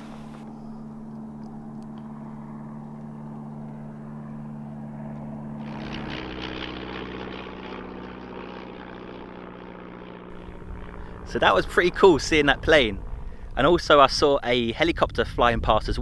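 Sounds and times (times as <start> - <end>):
propeller aeroplane engine drone: 0.0 - 15.0.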